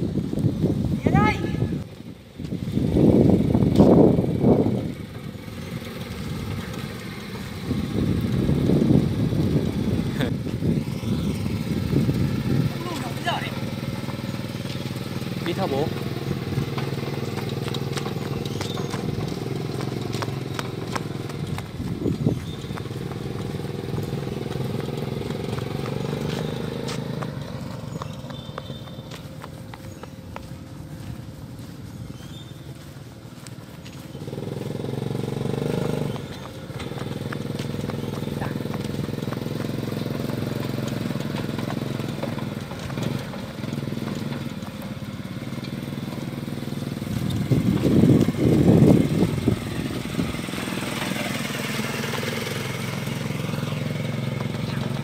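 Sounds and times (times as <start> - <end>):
small engine running: 0.7 - 55.0.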